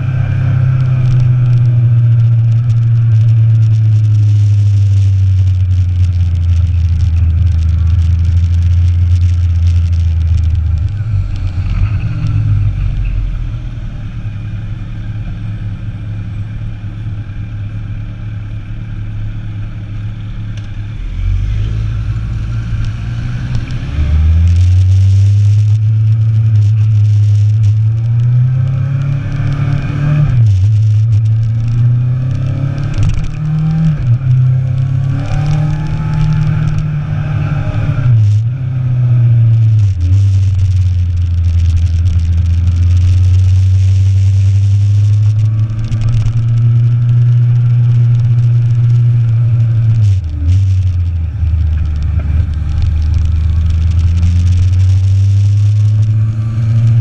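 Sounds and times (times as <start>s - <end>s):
motorcycle engine accelerating: 0.0s - 18.0s, 20.0s - 57.0s.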